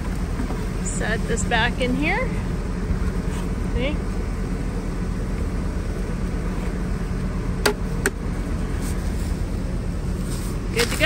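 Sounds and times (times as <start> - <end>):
combine engine rumble: 0.0 - 11.0.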